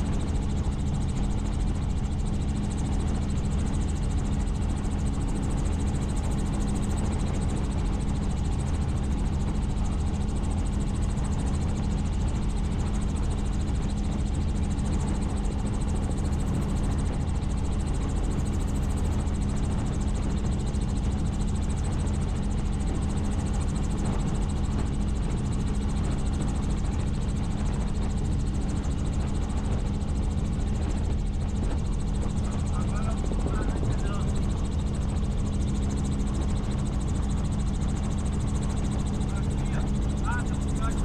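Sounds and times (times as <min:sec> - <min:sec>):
helicopter engine and rotor: 0:00.0 - 0:41.0.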